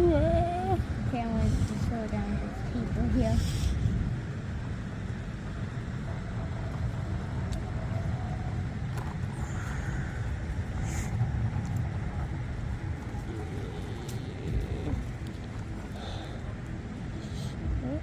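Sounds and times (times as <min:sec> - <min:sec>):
small vehicle rolling on pavement: 0:00.0 - 0:17.8
wind on microphone: 0:00.0 - 0:18.0.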